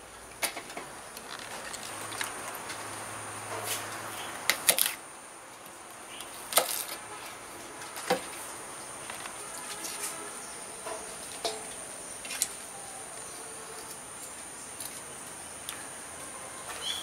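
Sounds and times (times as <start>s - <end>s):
high insect chirr: 0.1s - 17.0s.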